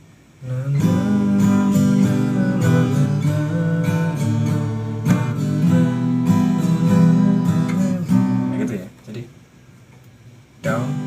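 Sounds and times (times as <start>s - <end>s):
acoustic guitar strumming: 0.0s - 9.0s, 10.6s - 11.0s.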